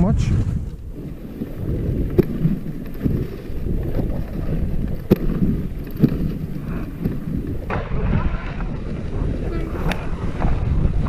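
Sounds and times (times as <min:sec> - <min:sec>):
sled runners rumbling on snow: 0:00.0 - 0:11.0
wind on microphone: 0:00.0 - 0:11.0.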